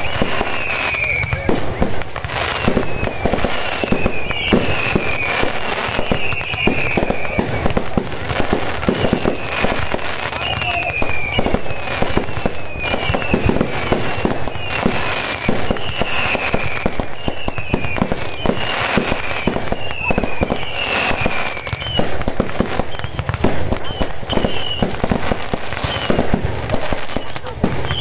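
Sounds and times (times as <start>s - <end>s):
falling firework whistles: 0.0s - 28.0s
fireworks crackling and banging: 0.0s - 28.0s.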